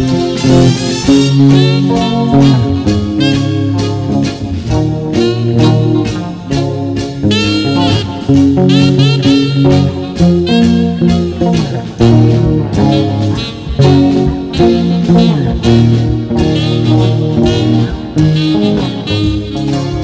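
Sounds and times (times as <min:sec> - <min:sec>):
bass line: 0:00.0 - 0:20.0
electric guitar playing notes: 0:00.0 - 0:20.0
jazzy backing track: 0:00.0 - 0:20.0.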